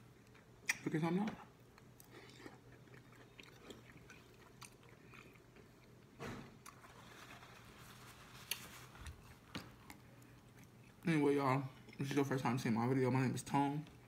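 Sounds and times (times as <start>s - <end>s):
chewing food: 0.0s - 7.5s, 8.2s - 12.4s.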